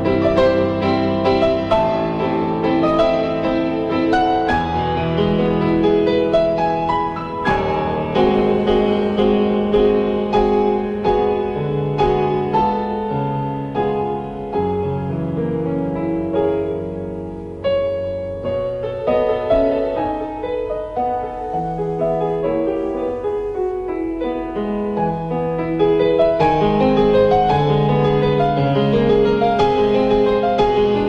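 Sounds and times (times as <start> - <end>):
slow gentle piano chords: 0.0 - 31.0.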